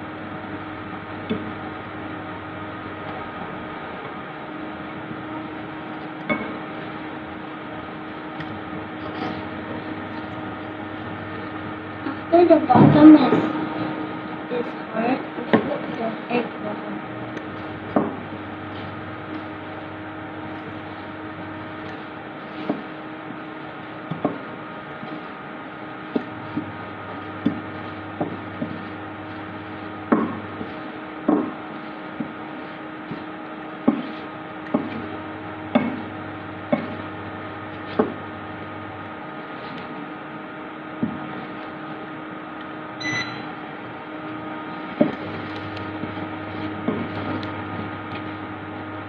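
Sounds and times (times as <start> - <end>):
low hum: 0.0 - 49.0.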